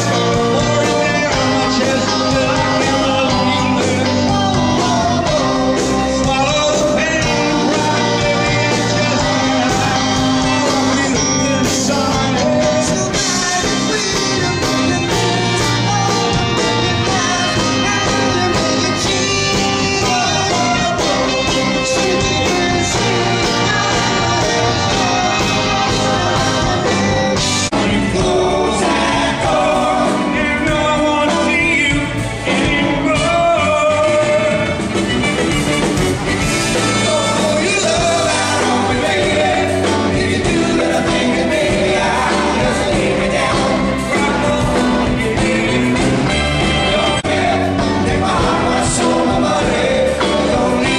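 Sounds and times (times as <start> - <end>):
lead singer singing: 0.0 - 35.1, 35.9 - 50.9
drums beating: 0.0 - 50.9
rock band playing: 0.0 - 50.9.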